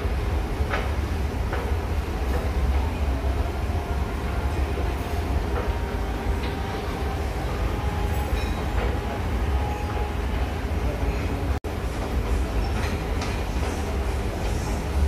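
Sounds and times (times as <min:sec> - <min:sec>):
faint escalator whine: 0:00.0 - 0:15.0.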